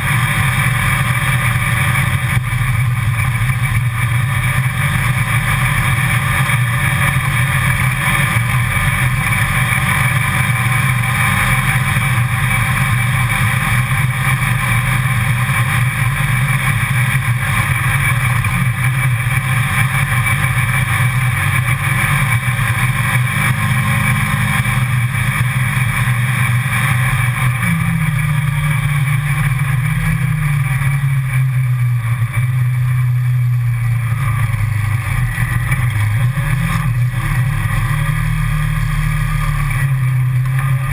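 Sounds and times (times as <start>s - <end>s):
utility vehicle engine driving: 0.0s - 40.9s.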